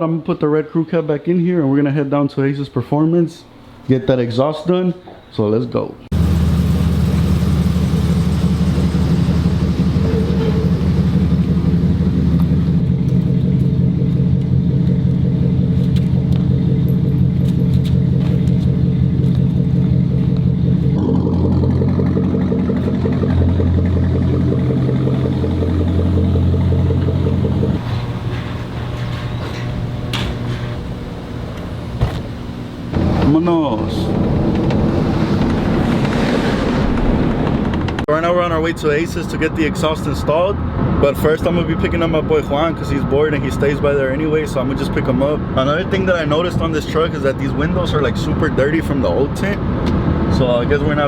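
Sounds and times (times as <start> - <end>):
truck engine running low: 6.1 - 51.0.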